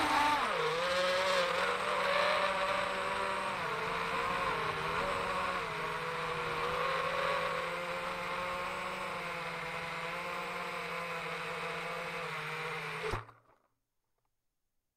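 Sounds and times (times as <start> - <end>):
quadcopter propellers whining: 0.0 - 13.4.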